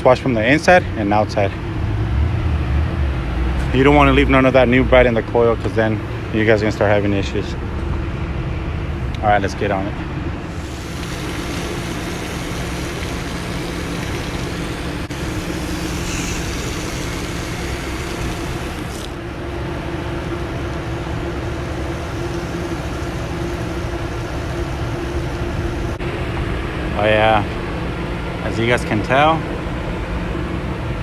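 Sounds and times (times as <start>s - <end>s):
air conditioning units humming: 0.0s - 31.0s.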